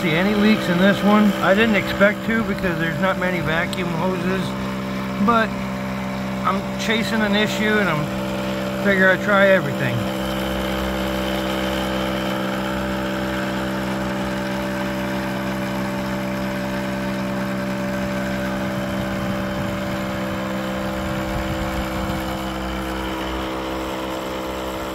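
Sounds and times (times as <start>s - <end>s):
air compressor humming: 0.0s - 24.9s.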